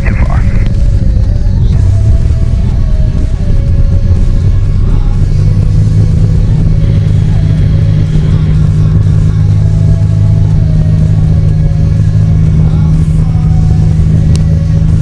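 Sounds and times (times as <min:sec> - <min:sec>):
aircraft engine and propeller drone: 0:00.0 - 0:15.0.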